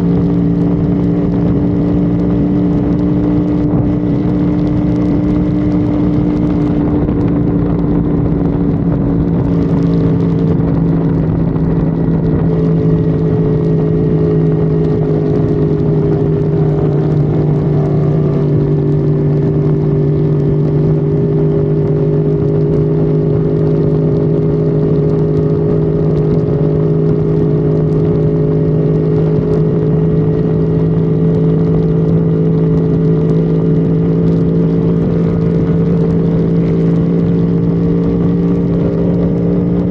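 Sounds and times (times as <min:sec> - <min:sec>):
car engine at high revs: 0:00.0 - 0:39.9
road and wind noise: 0:00.0 - 0:39.9.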